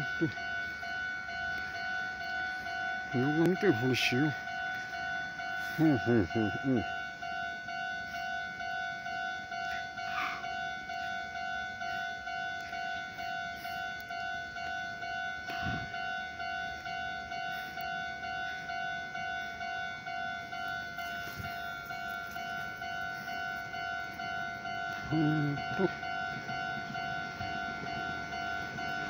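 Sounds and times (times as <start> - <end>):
level crossing bell ringing: 0.0 - 29.0.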